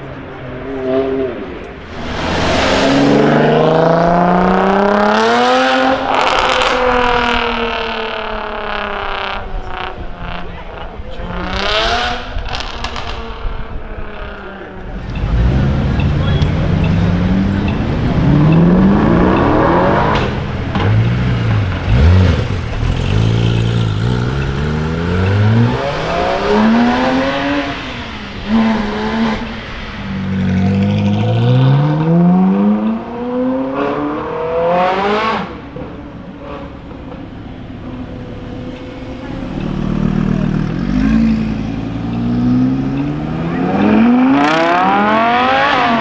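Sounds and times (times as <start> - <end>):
car engines accelerating hard: 0.0 - 46.0.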